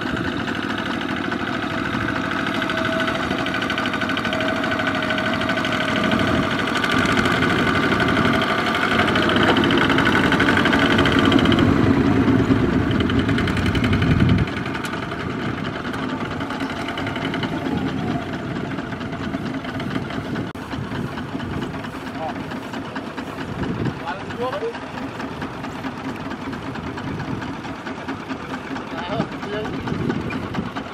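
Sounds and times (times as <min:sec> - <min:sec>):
walking tractor diesel engine: 0:00.0 - 0:30.9.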